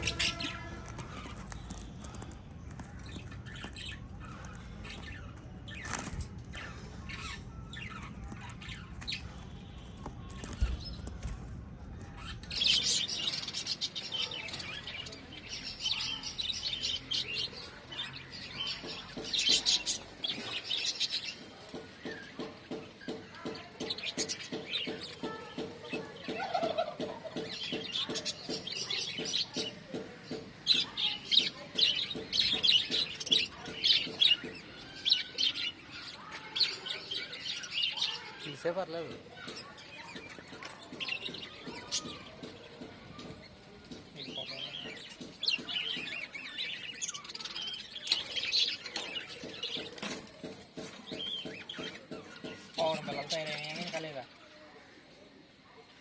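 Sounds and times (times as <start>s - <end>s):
parrots chirping: 0.0s - 22.7s, 23.9s - 54.0s.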